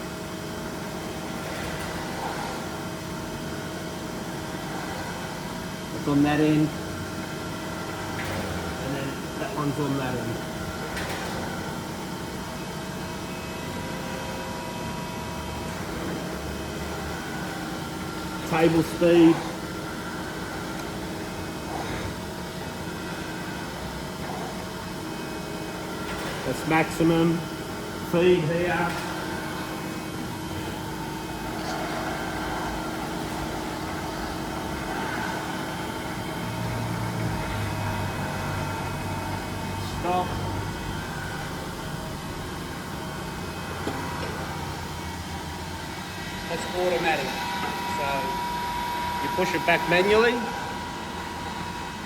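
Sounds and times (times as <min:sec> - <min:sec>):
grinder humming with constant tones: 0:00.0 - 0:52.0.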